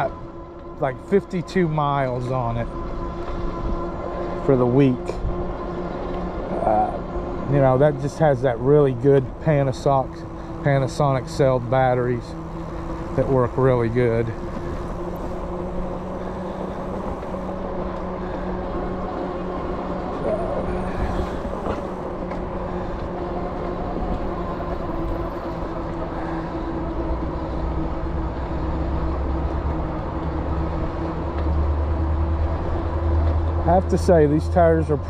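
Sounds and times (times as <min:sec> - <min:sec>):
electric bike tire and drive hum: 0:00.0 - 0:35.0
low rumble: 0:01.7 - 0:35.0.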